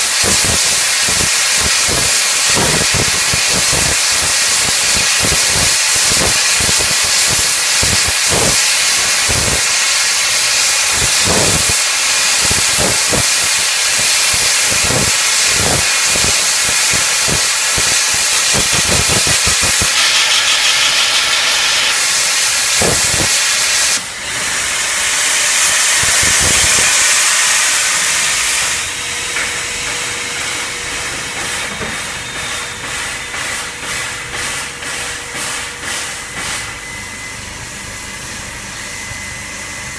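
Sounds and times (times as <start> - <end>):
steam locomotive hissing steam: 0.0 - 37.9.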